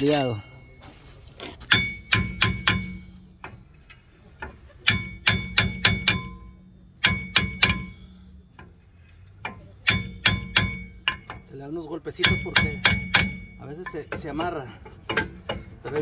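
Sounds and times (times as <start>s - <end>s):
hammer striking ringing brake rotor: 0.0s - 1.0s, 1.6s - 16.0s.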